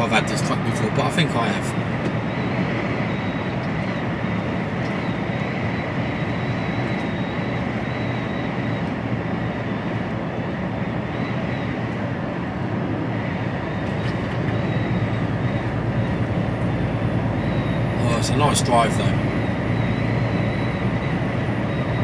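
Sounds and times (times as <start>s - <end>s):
lorry engine and road noise: 0.0s - 22.0s.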